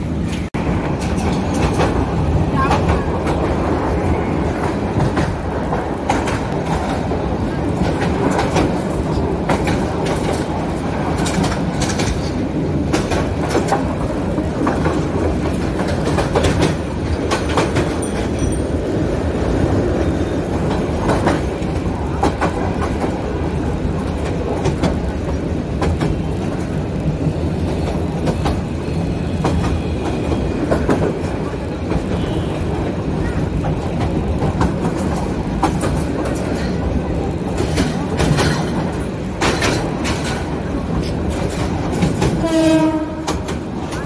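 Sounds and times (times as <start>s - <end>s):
train rumble: 0.0s - 44.0s
wheels clicking over rail joints: 0.1s - 44.0s.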